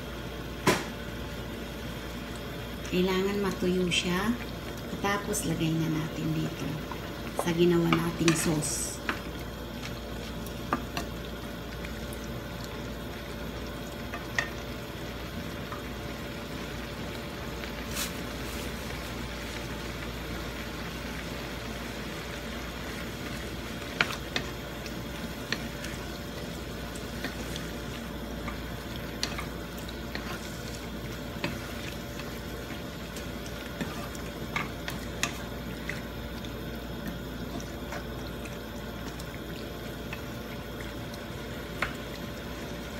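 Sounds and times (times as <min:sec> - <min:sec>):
chicken sizzling in a pan: 0:00.1 - 0:42.9.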